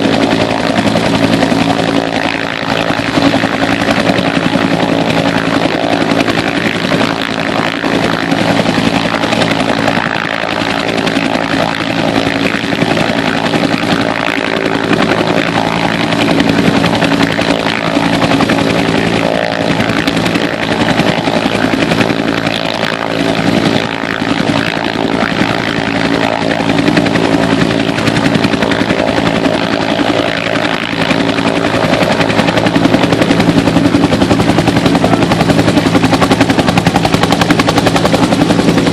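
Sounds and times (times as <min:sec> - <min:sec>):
helicopter engine whine: 0:00.0 - 0:38.9
helicopter rotor flutter: 0:00.0 - 0:38.9.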